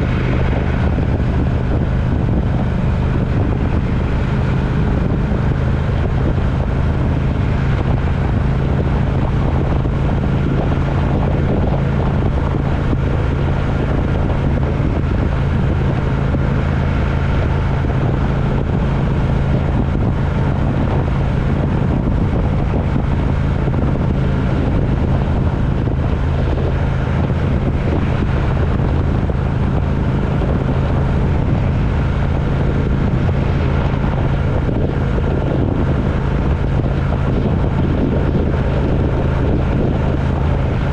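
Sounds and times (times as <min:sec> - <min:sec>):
vehicle engine hum: 0:00.0 - 0:40.9
wind and road noise: 0:00.0 - 0:40.9.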